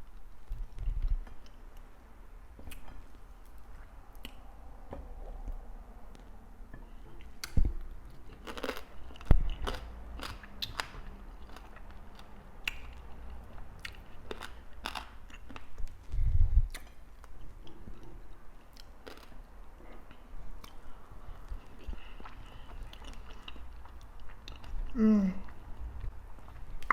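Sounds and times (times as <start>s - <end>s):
person chewing food: 2.7s - 4.5s, 5.3s - 26.9s.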